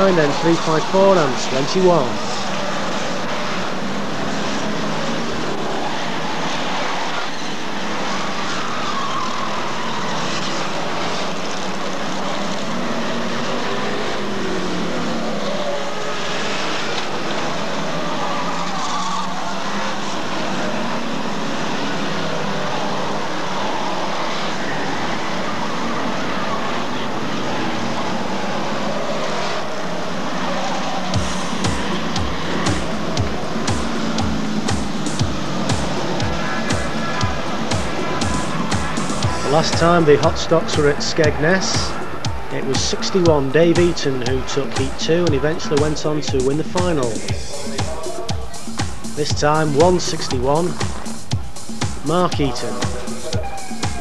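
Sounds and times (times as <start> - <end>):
racing car engines: 0.0 - 54.0.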